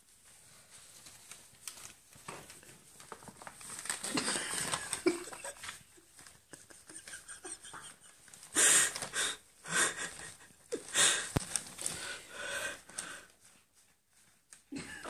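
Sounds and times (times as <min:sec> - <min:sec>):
paper bag rustling and crinkling: 0:00.0 - 0:14.9.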